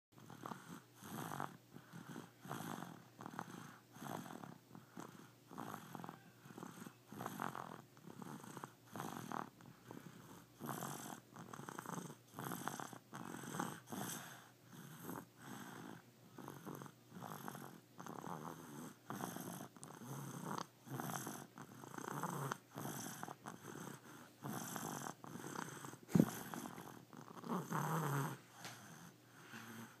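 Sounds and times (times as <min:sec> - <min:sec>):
rhythmic rasping snoring: 0:00.2 - 0:30.0.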